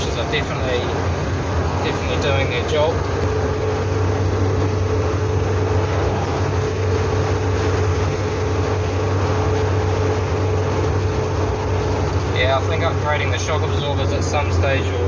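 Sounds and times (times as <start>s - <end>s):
car engine drone: 0.0s - 15.0s
road and tyre noise: 0.0s - 15.0s.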